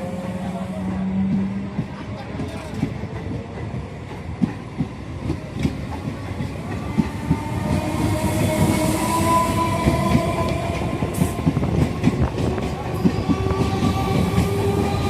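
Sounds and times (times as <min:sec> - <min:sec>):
train wheels clattering on rail joints: 0:00.8 - 0:15.0.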